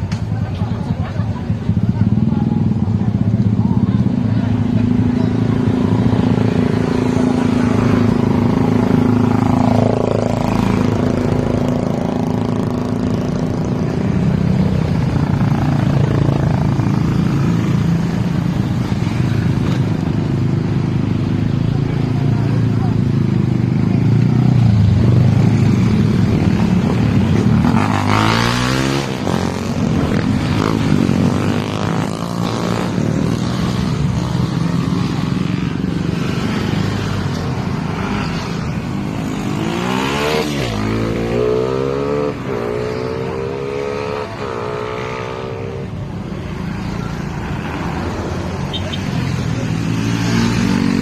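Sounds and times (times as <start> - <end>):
motorcycle engine revving: 1.7 - 46.0.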